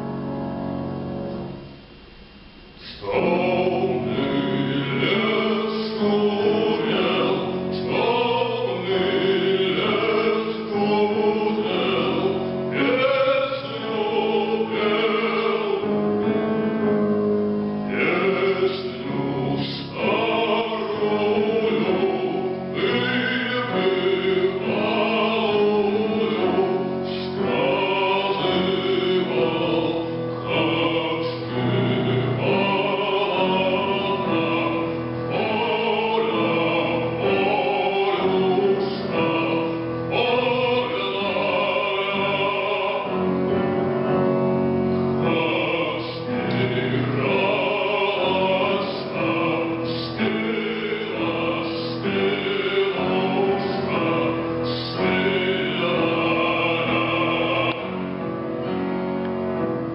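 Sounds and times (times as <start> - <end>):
man singing with held notes: 2.6 - 59.2.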